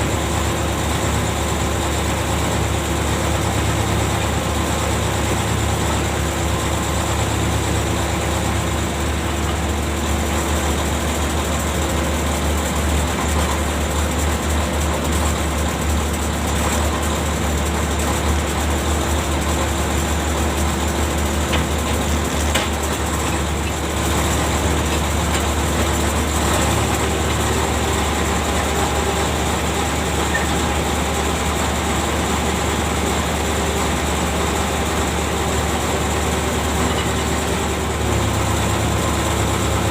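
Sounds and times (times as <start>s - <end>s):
ship's deck machinery humming: 0.0s - 39.9s.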